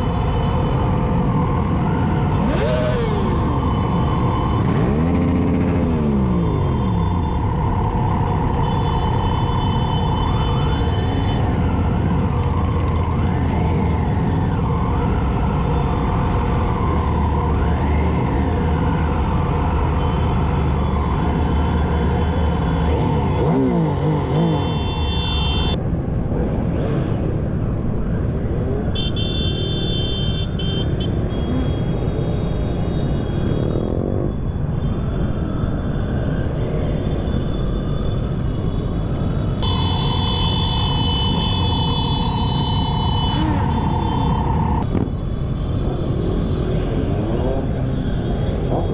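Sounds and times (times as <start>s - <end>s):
many motorcycle engines: 0.0s - 48.9s
motorcycle engines revving: 0.0s - 48.9s.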